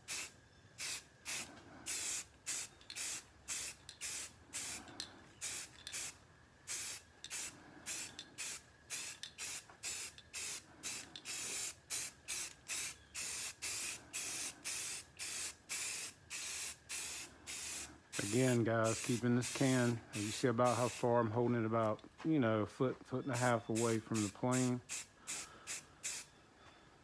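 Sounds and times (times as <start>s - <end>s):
spray paint can hissing: 0.0s - 21.1s, 23.8s - 26.3s.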